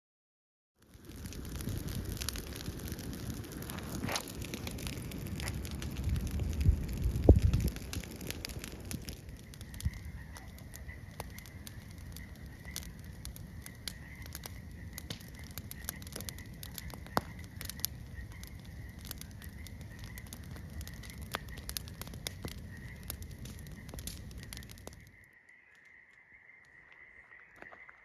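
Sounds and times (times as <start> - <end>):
fire crackling and popping: 0.8 - 28.0.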